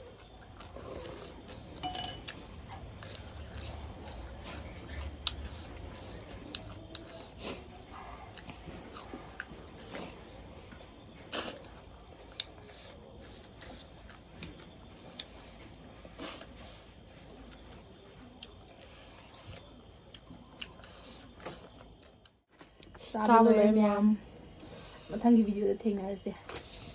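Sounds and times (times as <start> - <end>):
chewing food: 0.0 - 23.1.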